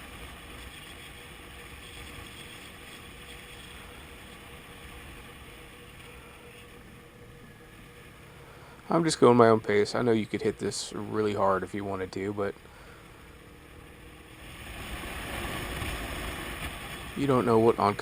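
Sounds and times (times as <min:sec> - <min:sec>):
motorcycle engine drone: 0:00.0 - 0:18.0.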